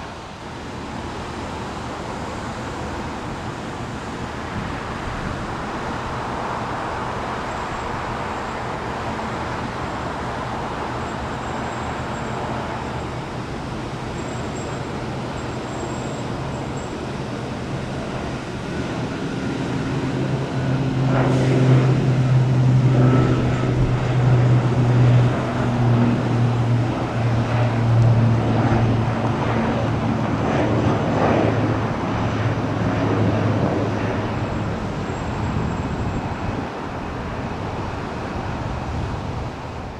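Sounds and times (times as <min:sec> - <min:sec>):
loud engine with low hum: 0:00.1 - 0:39.9.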